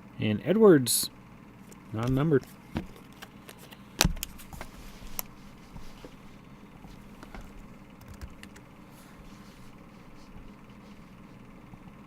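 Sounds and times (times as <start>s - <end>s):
trading cards and packaging handled: 1.6s - 11.5s.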